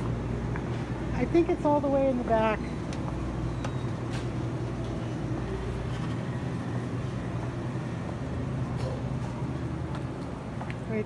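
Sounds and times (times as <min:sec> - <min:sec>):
low mechanical hum and rumble: 0:00.0 - 0:11.0.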